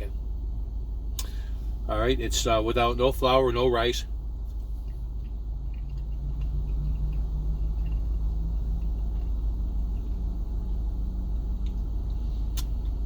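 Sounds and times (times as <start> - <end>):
faint low hum: 0.0 - 13.0
low rumble: 0.0 - 13.0.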